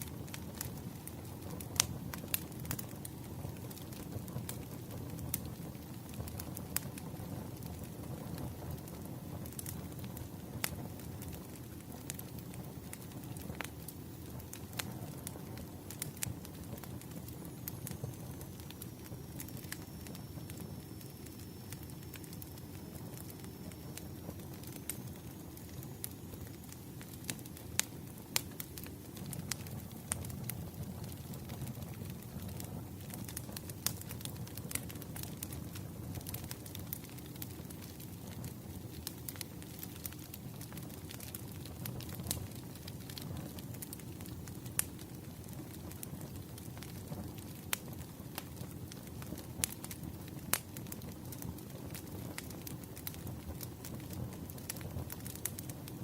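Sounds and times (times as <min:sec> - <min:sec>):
fire flames rumbling: 0:00.0 - 0:56.0
logs crackling and popping: 0:00.0 - 0:56.0.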